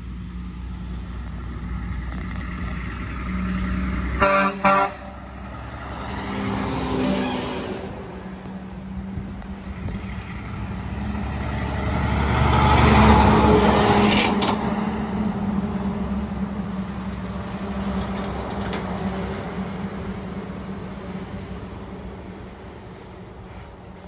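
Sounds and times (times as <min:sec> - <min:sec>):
truck driving past: 0:00.0 - 0:23.9.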